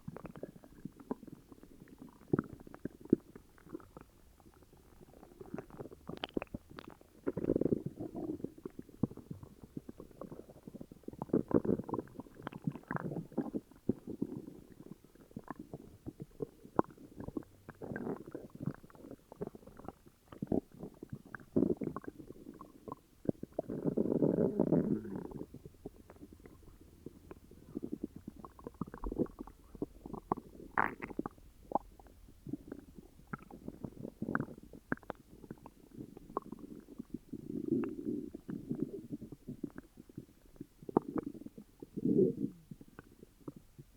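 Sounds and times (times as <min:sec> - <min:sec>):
stomach growl: 0:00.0 - 0:43.9
stomach gurgling: 0:00.0 - 0:43.9.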